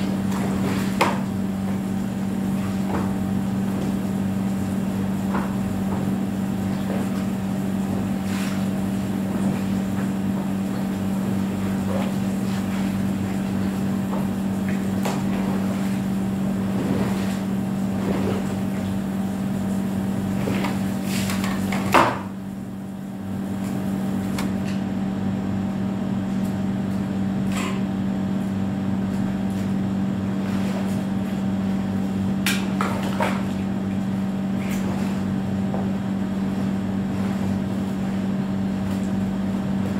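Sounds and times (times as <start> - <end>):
low motor-like hum: 0.0 - 39.9.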